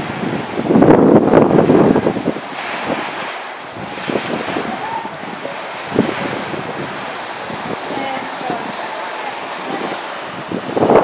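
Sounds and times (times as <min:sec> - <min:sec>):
sea water rushing and splashing: 0:00.0 - 0:11.0
wind buffeting microphone: 0:00.0 - 0:11.0.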